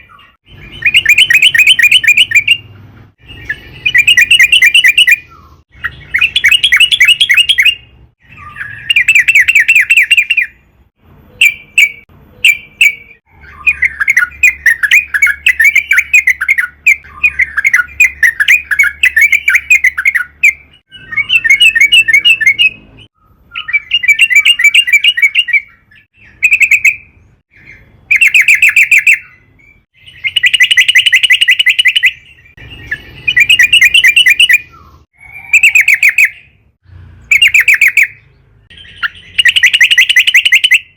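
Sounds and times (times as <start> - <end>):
bird singing bubbling notes: 0.0 - 10.6, 11.3 - 40.9.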